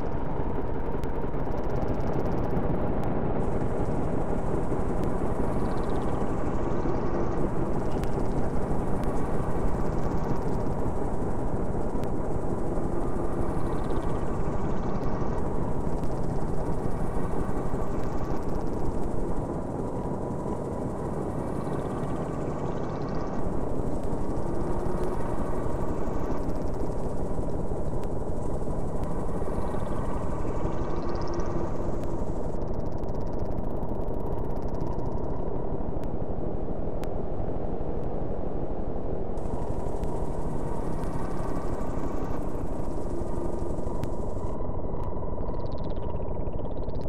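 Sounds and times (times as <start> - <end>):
rumbling noise drone: 0.0 - 47.0.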